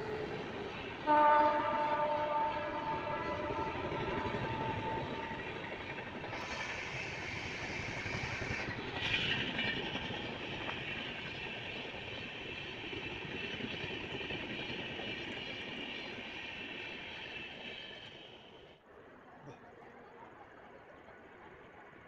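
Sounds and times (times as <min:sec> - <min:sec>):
train coaches passing at speed: 0:00.0 - 0:18.8.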